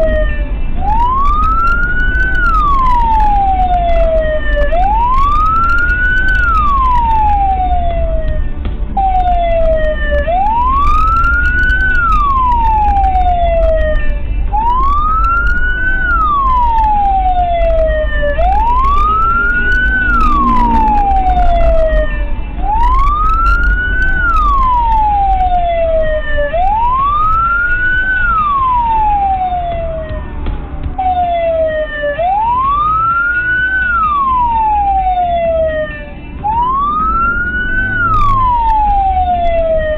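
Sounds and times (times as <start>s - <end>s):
car driving low rumble: 0.0s - 39.9s
vehicle siren wailing: 0.0s - 39.9s.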